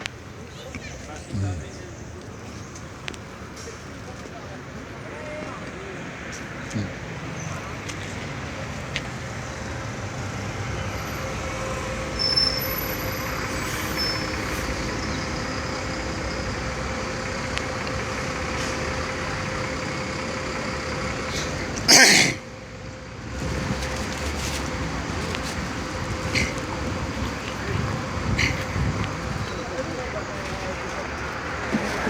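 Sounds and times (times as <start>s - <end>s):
heavy road traffic: 0.0s - 32.0s.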